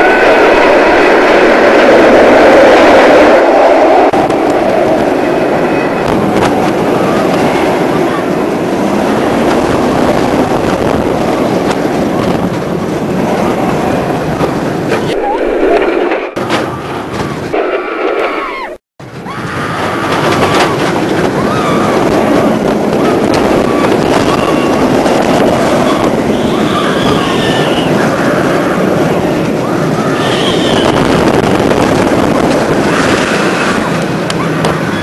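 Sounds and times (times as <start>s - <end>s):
roller coaster train rumbling: 0.0s - 35.0s
wind rushing over microphone: 0.0s - 35.0s.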